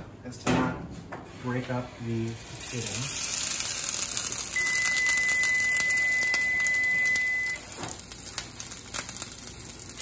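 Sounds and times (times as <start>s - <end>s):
potato patties sizzling in oil: 2.0s - 10.0s.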